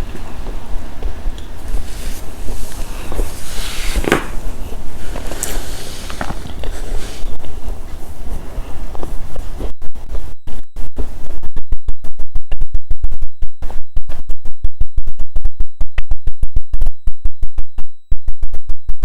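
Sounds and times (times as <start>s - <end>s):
faint high whine: 0.0s - 17.2s
microphone interference crackling: 0.0s - 19.0s.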